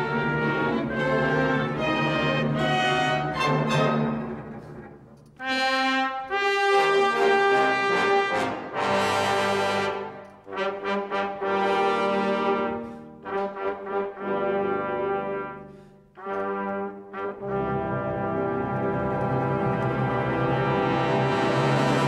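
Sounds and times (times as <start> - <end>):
orchestral music led by brass: 0.0 - 22.0.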